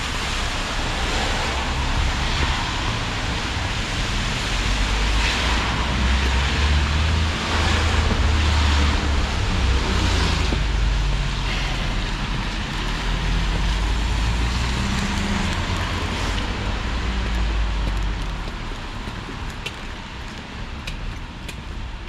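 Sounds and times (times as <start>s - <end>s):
road hiss: 0.0s - 20.9s.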